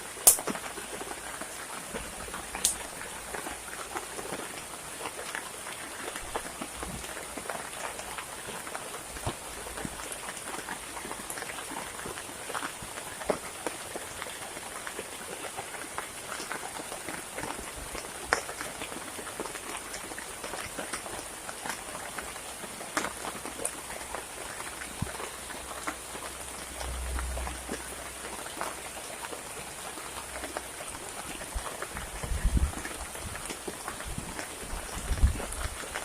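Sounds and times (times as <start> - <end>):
heavy rain: 0.0 - 36.0.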